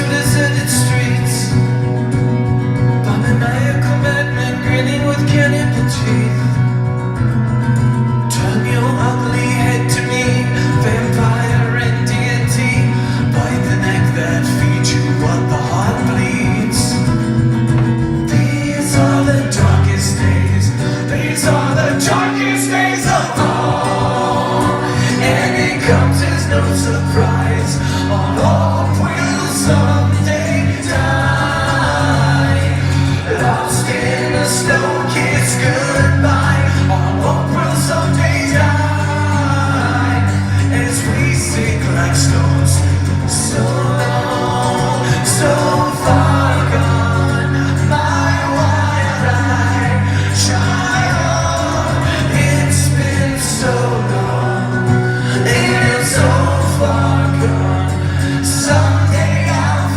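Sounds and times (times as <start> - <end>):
acoustic band accompaniment: 0.0 - 59.9
steady low bass notes: 0.0 - 59.9
strummed beat: 6.9 - 57.8
person singing: 8.2 - 59.9.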